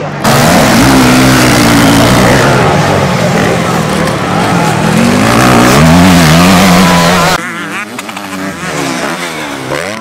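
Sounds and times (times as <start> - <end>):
distant dirt bike revving: 0.0 - 10.0
motocross bike engine revving: 0.1 - 10.0.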